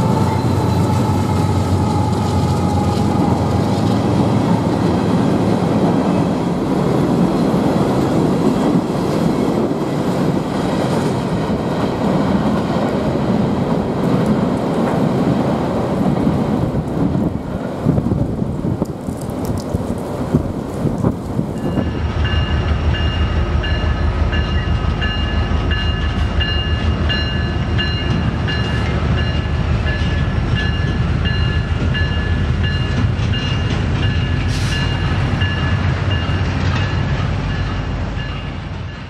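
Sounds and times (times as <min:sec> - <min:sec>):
diesel locomotive rumble: 0:00.0 - 0:39.0
wheels on rail: 0:00.0 - 0:39.0.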